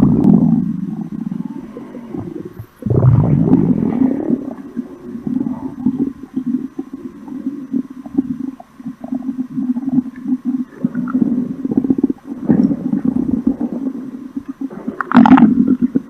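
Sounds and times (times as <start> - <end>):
stomach grumbling: 0.0 - 16.0.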